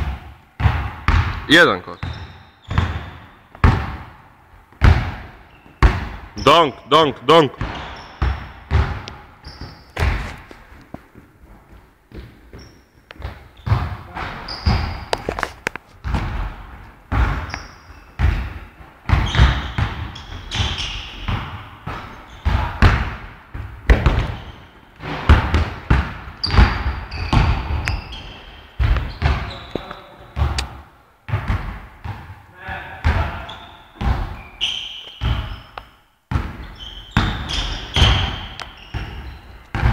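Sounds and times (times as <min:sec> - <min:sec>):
basketball bouncing on court floor: 0:00.0 - 0:06.4, 0:07.6 - 0:10.6, 0:12.1 - 0:34.5, 0:35.1 - 0:35.7, 0:36.3 - 0:39.9.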